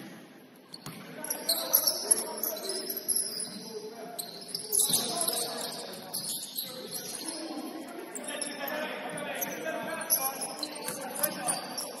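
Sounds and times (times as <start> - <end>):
shoes squeaking on gym floor: 0.7 - 12.0.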